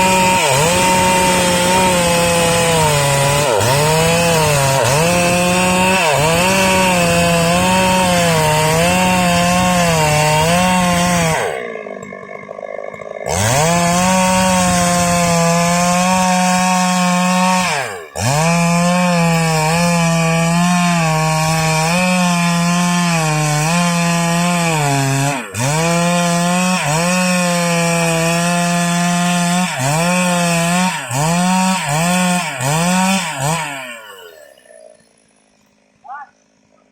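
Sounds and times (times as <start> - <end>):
chainsaw cutting a log: 0.0 - 36.9.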